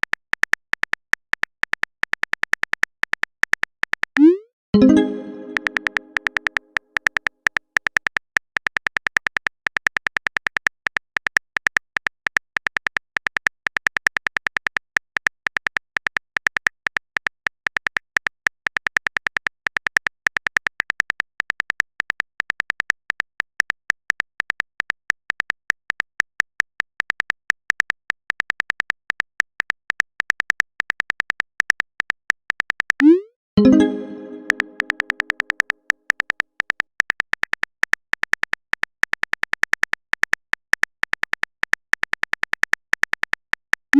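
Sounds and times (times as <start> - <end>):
rapid keyboard typing clicks: 0.1 - 43.6.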